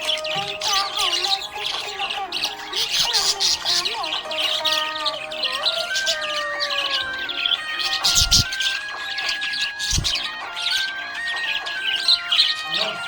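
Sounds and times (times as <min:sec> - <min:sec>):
budgerigar chirping and chattering: 0:00.0 - 0:13.0
music: 0:00.0 - 0:13.0.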